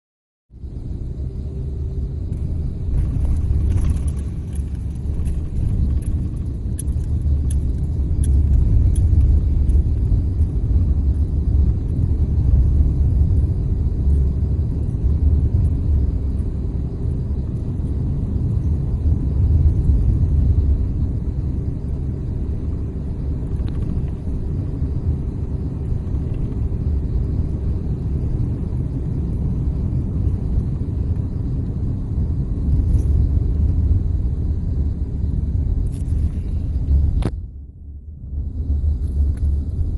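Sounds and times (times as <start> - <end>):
car driving rumble from inside: 0.6 - 39.9.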